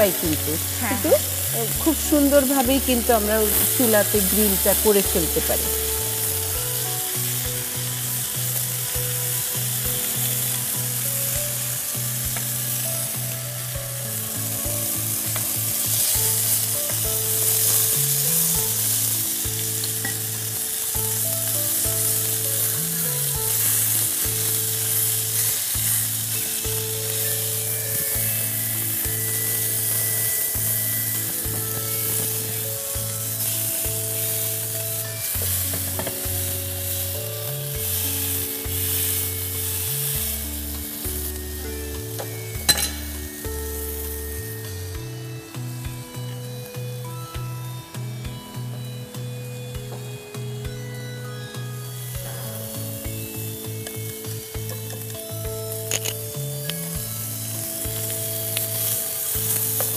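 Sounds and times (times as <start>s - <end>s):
background music with slow bass: 0.0s - 59.9s
chicken sizzling in a pan: 0.0s - 59.9s.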